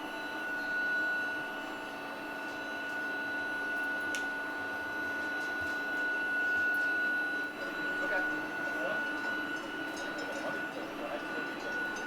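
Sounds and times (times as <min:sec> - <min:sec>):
high-pitched electrical whine: 0:00.0 - 0:12.0.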